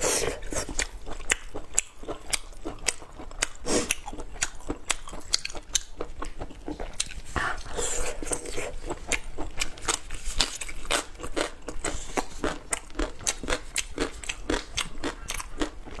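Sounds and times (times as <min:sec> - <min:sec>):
chewing with wet mouth clicks: 0:00.6 - 0:16.0.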